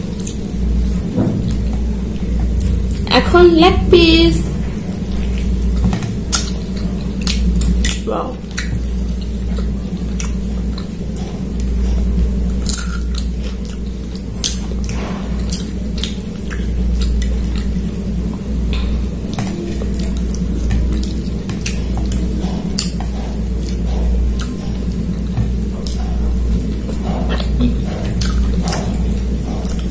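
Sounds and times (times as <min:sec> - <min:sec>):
chewing: 0:00.0 - 0:03.0, 0:04.9 - 0:29.9
steady low hum: 0:00.0 - 0:29.9.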